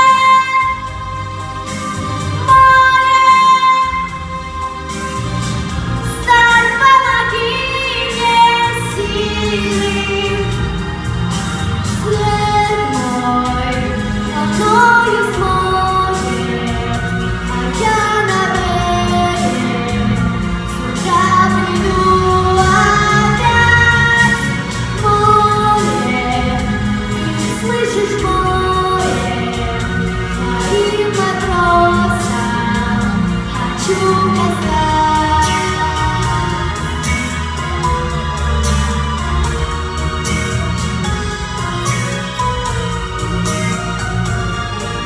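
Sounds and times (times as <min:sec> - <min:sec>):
backing track with bass and beat: 0:00.0 - 0:45.0.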